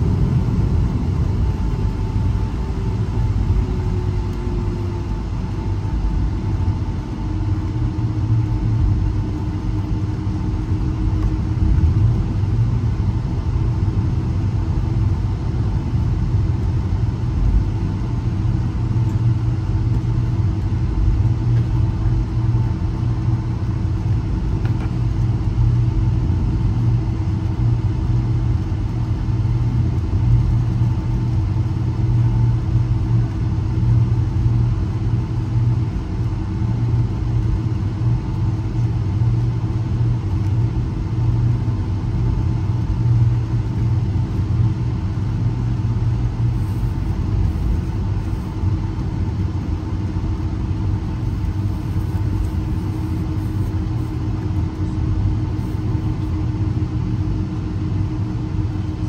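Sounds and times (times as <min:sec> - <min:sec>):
engines idling rumble: 0:00.0 - 0:59.0
faint steady hum: 0:00.0 - 0:59.0.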